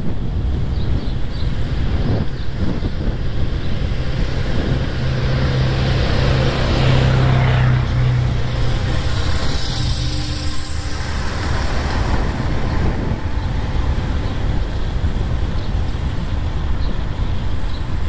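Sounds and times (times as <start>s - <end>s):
street traffic: 0.0s - 18.0s
vehicle engine humming: 0.0s - 18.0s
wind on microphone: 0.0s - 18.0s.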